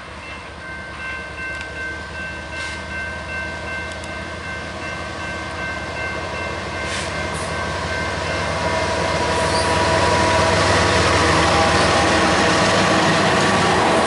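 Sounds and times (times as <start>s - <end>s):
diesel locomotive engines running: 0.0s - 14.0s.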